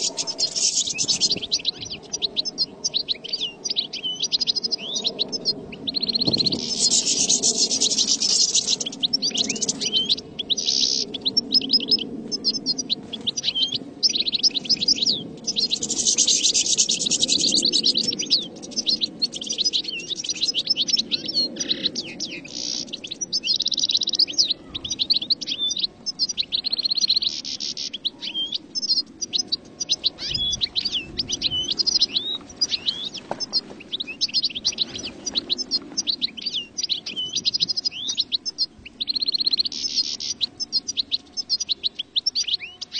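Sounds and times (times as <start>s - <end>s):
goldfinches twittering: 0.0s - 42.9s.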